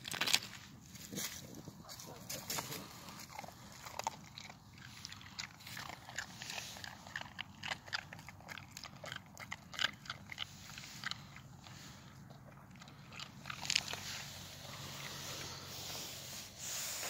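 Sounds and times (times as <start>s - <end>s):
dog crunching ice: 0.0s - 15.7s.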